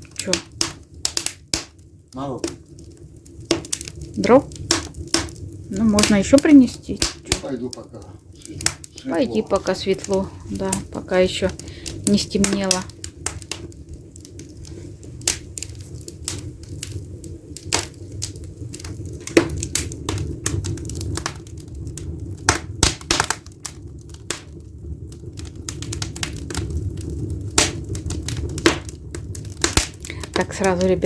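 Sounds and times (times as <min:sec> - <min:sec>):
firewood crackling and popping: 0:00.0 - 0:31.0
low steady rumble: 0:00.0 - 0:31.0.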